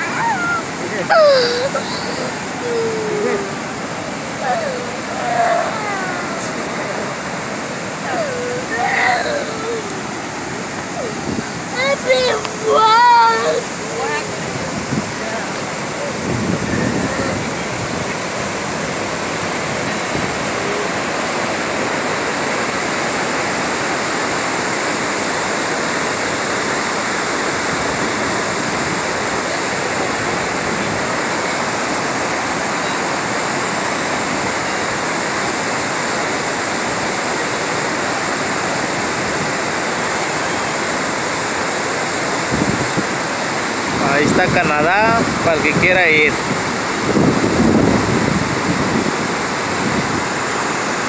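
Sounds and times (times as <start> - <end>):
water rushing over rapids: 0.0 - 51.0.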